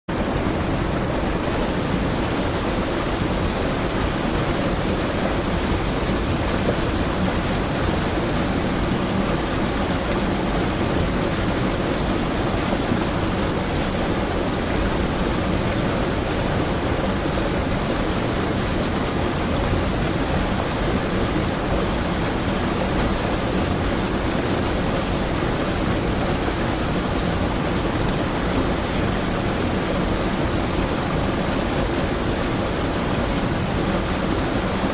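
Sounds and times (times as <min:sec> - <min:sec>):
water rushing over small waterfall: 0:00.1 - 0:34.9.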